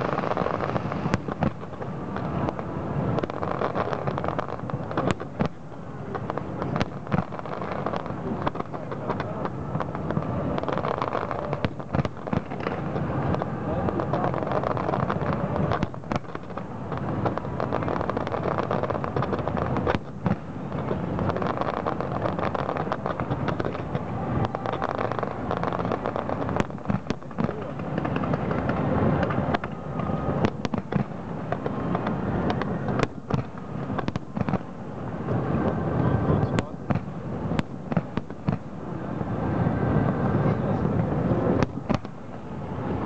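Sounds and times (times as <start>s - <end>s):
firework bangs and cracks: 0.0s - 43.0s
rumble of firework bursts: 0.0s - 43.0s.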